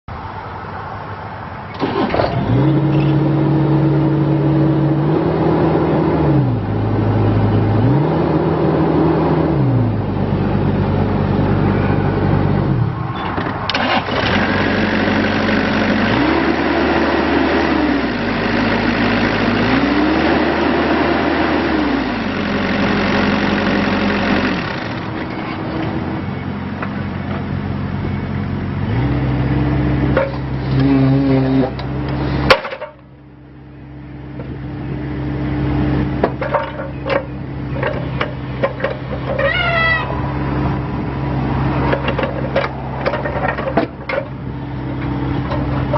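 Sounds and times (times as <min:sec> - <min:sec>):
diesel engine revving: 0:01.7 - 0:32.6, 0:33.7 - 0:45.9.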